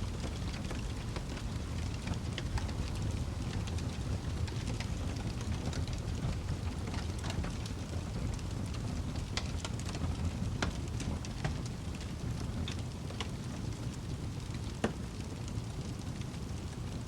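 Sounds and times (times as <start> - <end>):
fire flames rumbling: 0.0 - 17.0
burning wood popping and snapping: 0.1 - 17.0.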